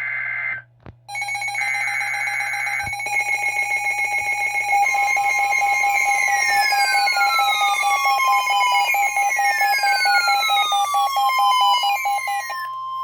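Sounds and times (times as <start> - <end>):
high electronic alert tones: 1.1 - 13.0
pulsing tone: 1.1 - 13.0
warbling data tone bursts: 1.1 - 13.0
falling siren-like sweeps: 1.2 - 13.0.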